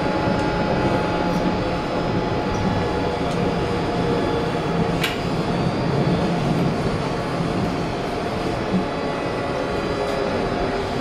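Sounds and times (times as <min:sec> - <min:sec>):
steady whining tones: 0:00.0 - 0:11.0
subway wheels rumbling on rail: 0:00.0 - 0:11.0.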